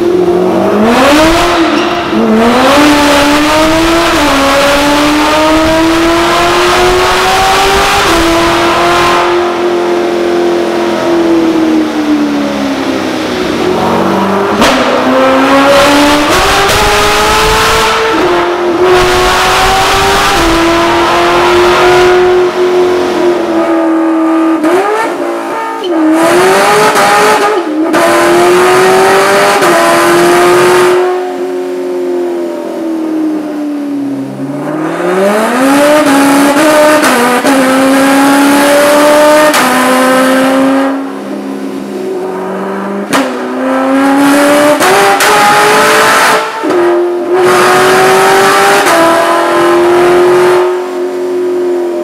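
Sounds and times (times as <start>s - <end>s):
car engine revving on dyno: 0.0s - 52.0s.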